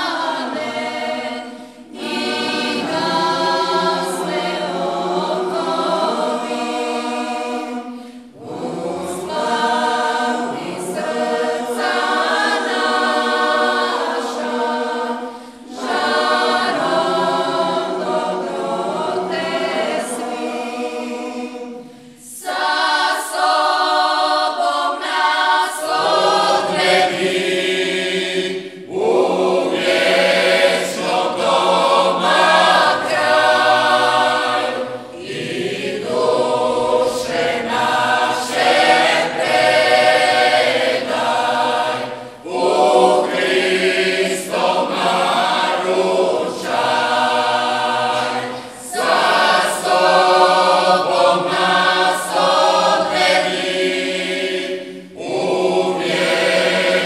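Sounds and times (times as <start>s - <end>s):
mixed choir singing a hymn: 0.0s - 57.0s.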